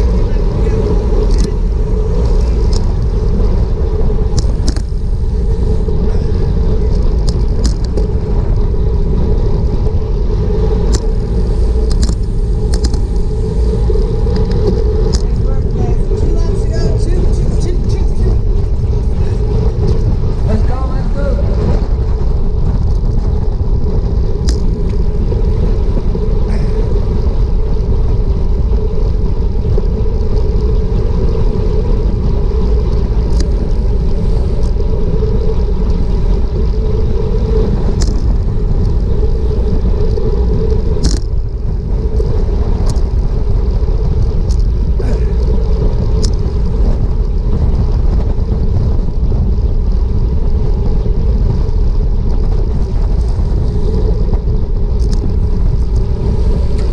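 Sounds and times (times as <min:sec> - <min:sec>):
road rumble: 0:00.0 - 0:56.9
wind rush: 0:00.0 - 0:56.9.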